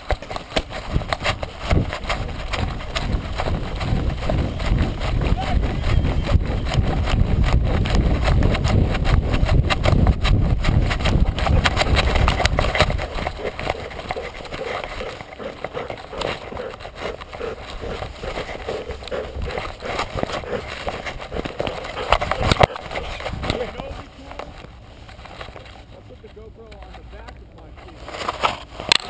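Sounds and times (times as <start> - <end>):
wind buffeting: 0.0 - 24.9
dog footfalls on grass: 0.0 - 25.8
camera jostling: 0.0 - 29.0.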